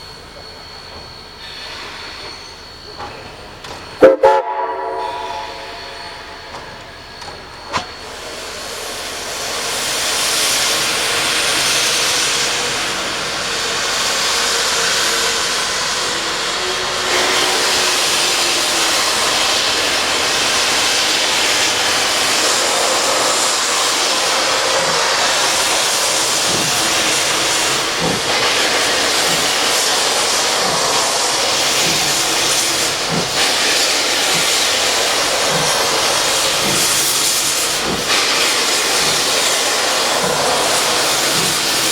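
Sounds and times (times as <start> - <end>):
steam locomotive hissing: 0.0 - 41.9.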